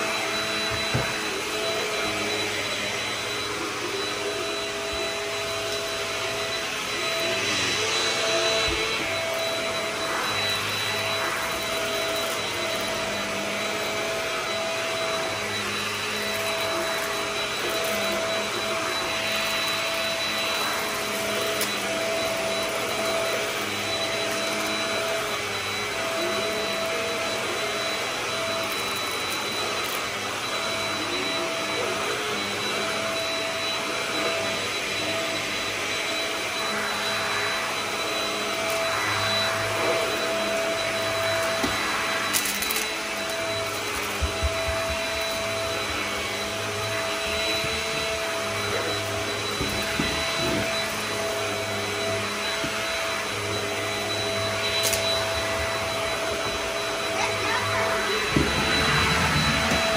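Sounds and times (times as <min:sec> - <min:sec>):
stick vacuum motor whining: 0:00.0 - 0:59.9.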